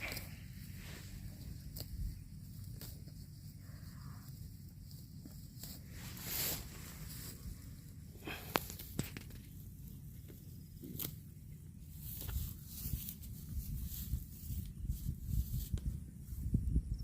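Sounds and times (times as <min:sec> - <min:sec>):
cow tearing grass and chewing: 0:00.0 - 0:16.7.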